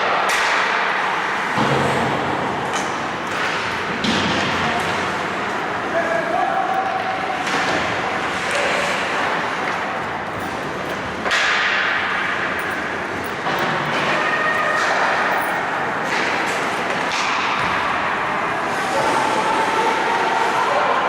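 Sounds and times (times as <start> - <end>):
arena noise: 0.0 - 21.0
skates and sticks scraping ice: 0.0 - 21.0.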